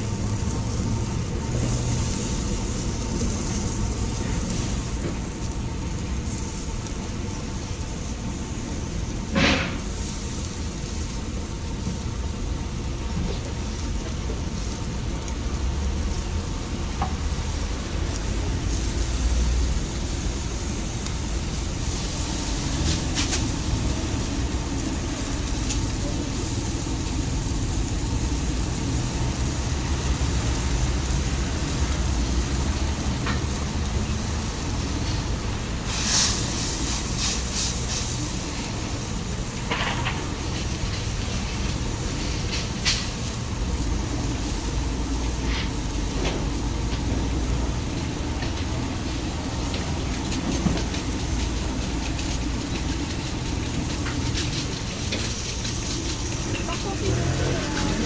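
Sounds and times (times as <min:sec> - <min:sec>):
low rumble and hiss: 0:00.0 - 0:58.0.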